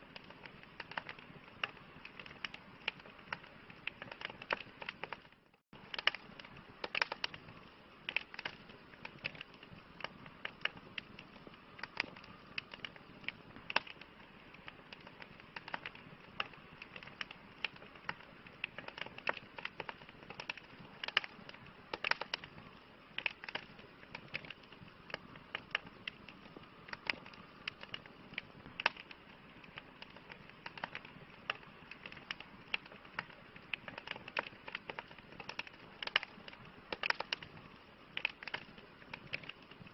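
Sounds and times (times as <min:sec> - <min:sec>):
campfire pops and snaps: 0:00.0 - 0:39.9
soft steady hiss: 0:00.0 - 0:39.9.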